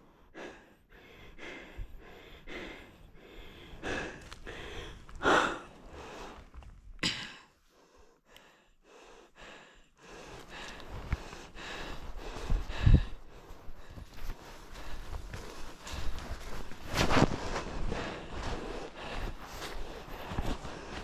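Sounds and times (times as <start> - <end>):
person breathing hard: 0.0 - 21.0.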